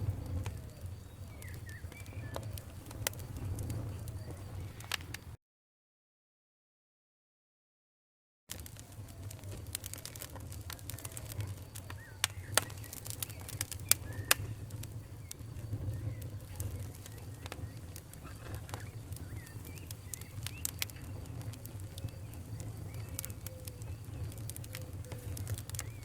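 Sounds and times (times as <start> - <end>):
fire popping: 0.0 - 5.4, 8.5 - 26.0
wood fire crackling: 0.0 - 5.4, 8.5 - 26.0.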